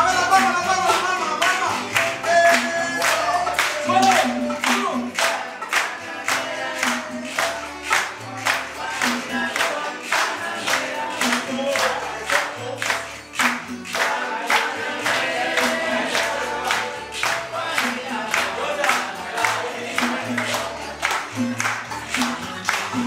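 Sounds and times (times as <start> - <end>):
acoustic guitars strummed: 0.0 - 23.0
men singing together: 0.0 - 23.0
clapping: 0.3 - 23.0.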